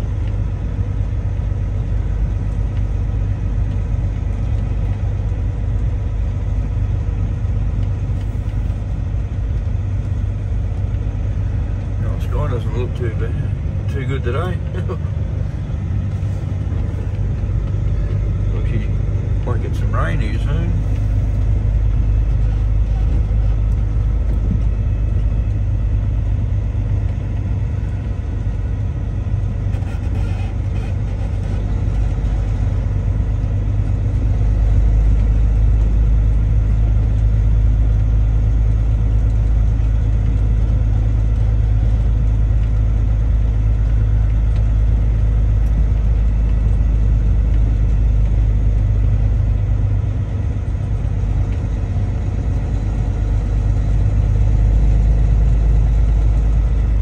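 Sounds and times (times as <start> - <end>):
truck engine and road noise: 0.0 - 57.0.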